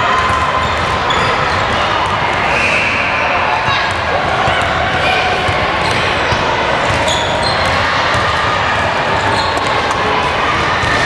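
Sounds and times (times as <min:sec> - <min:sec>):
gym hall background noise: 0:00.0 - 0:11.0
sneakers squeaking: 0:00.2 - 0:11.0.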